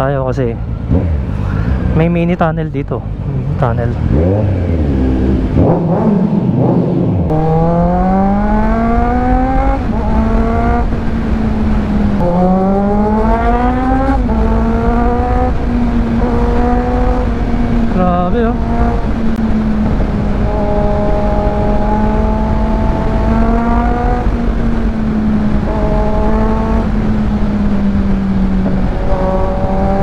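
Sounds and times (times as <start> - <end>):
motorcycle engine accelerating: 0.6 - 2.4, 3.0 - 30.0.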